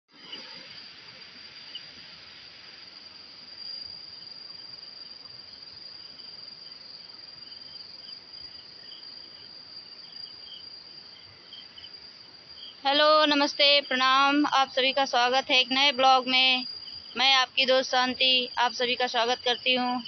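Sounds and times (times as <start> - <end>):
insect chirping in pulses: 0.1 - 20.0
insect trilling: 0.2 - 20.0.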